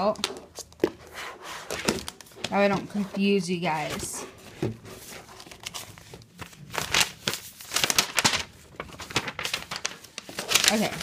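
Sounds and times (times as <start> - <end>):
plastic bag crinkling: 1.8 - 11.0.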